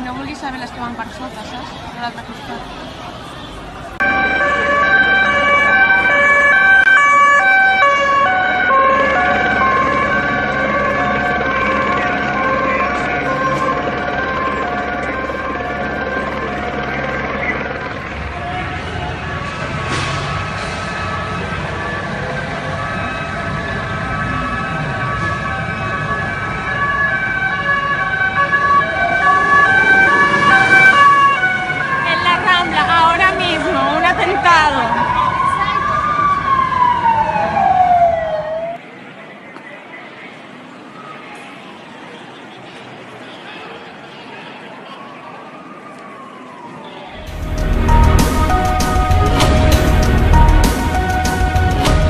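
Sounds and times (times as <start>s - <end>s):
low rumble of vehicles: 0.0s - 52.0s
two-tone siren: 4.0s - 38.8s, 44.6s - 52.0s.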